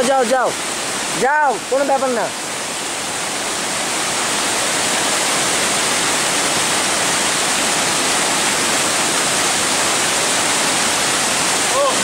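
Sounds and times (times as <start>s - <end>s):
waterfall rushing over boulders: 0.0s - 12.0s.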